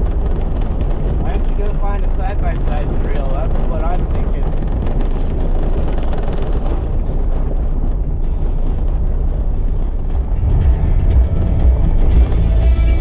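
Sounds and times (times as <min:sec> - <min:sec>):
engine and tyres rumbling: 0:00.0 - 0:13.0
faint music: 0:00.0 - 0:13.0.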